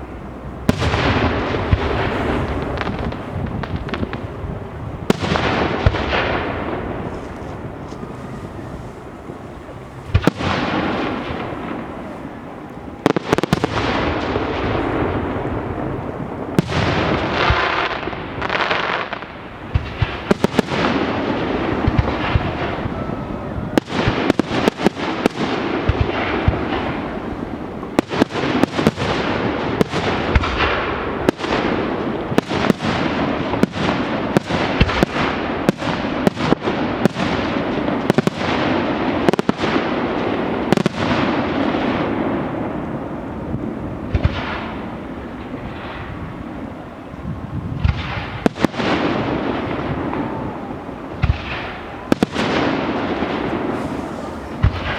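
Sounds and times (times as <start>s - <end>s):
continuous rush of noise: 0.0s - 54.9s
fireworks bangs: 0.0s - 54.9s.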